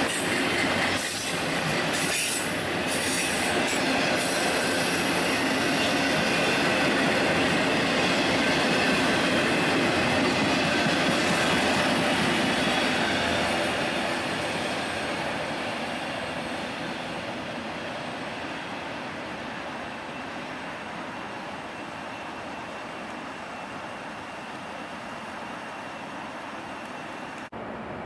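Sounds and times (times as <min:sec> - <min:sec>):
train rolling on rails: 0:00.0 - 0:28.0.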